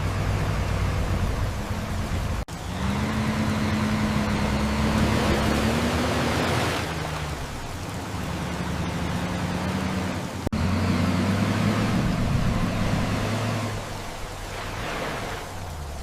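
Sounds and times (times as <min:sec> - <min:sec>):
dump truck engine running: 0:00.0 - 0:16.0.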